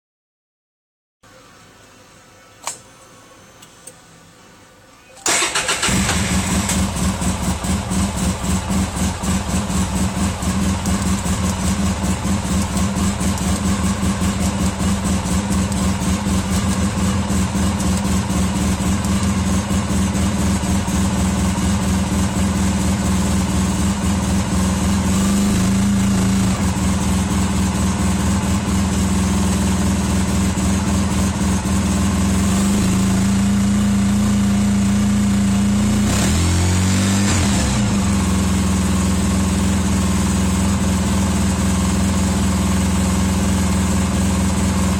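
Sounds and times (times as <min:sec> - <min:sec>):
vehicle engine starting and idling: 0:05.2 - 0:44.9.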